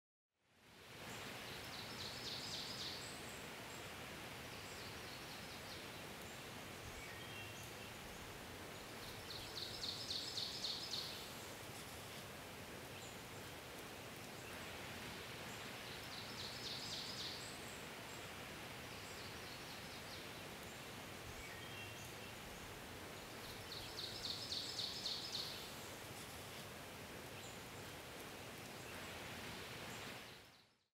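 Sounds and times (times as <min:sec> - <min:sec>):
outdoor background hiss: 0:00.4 - 0:30.9.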